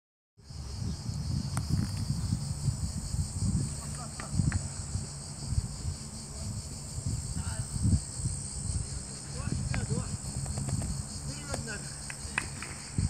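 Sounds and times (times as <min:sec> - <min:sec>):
insects buzzing: 0:00.4 - 0:13.0
low rumble on microphone: 0:00.4 - 0:13.0.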